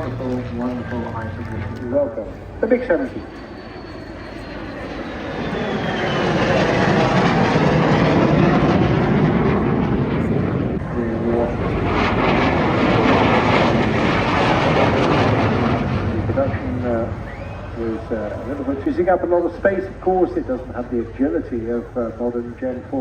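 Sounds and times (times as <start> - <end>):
high jet whine: 0.0 - 23.0
jet engine roar: 0.0 - 23.0.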